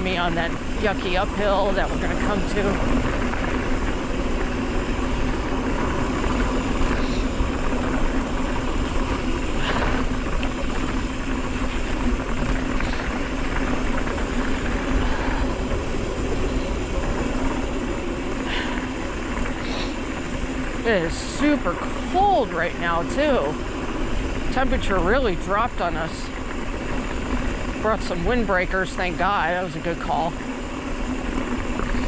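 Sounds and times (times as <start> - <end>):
bike rattles: 0.0 - 32.0
bike tyre rumble on dirt: 0.0 - 32.0
wind rush on microphone: 0.0 - 32.0.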